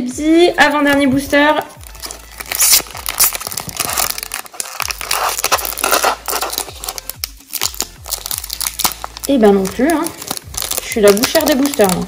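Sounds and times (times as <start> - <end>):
foil wrapper crinkling: 1.7 - 12.0.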